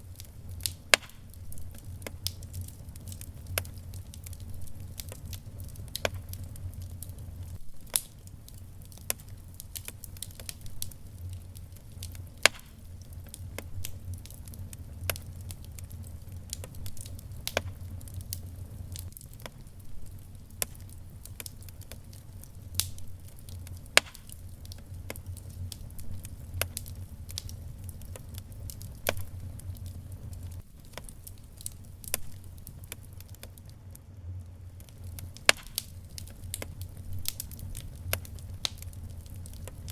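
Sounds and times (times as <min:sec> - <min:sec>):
fire low rumble: 0:00.0 - 0:39.9
wood fire pops and crackles: 0:00.0 - 0:39.9.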